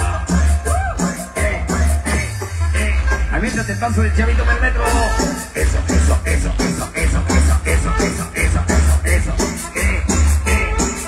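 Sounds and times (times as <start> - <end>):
loud dance music with bass: 0.0 - 11.0.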